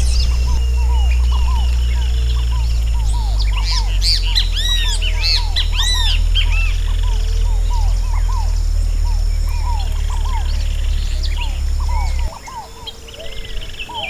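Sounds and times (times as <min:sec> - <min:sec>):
steady low rumble: 0:00.0 - 0:12.7
low bird call notes: 0:00.0 - 0:14.0
wild birds chirping: 0:00.0 - 0:14.0.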